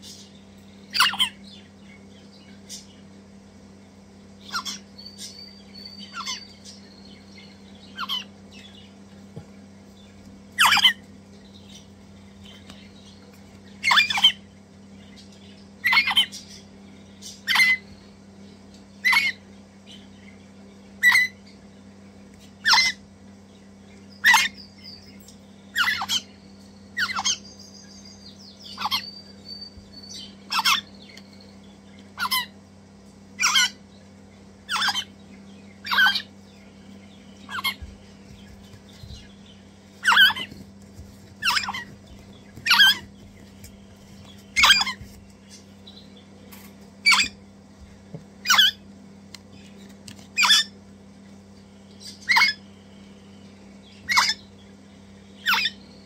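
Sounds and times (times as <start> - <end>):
parrot chicks begging calls: 0.0 - 3.2, 4.3 - 9.0, 10.0 - 18.3, 18.9 - 47.6, 48.3 - 50.8, 51.7 - 56.0.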